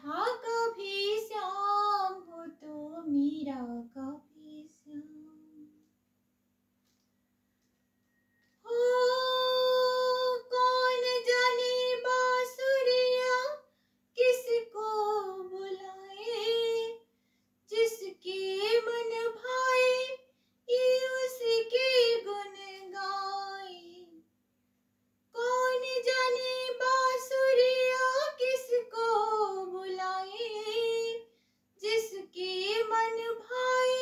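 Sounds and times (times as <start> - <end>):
woman singing unaccompanied: 0.0 - 5.8, 8.6 - 13.6, 14.2 - 17.0, 17.7 - 24.2, 25.4 - 31.2, 31.8 - 34.0.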